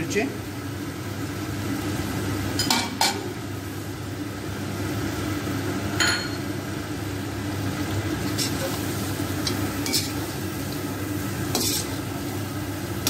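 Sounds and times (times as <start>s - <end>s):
food frying hiss: 0.0s - 13.0s.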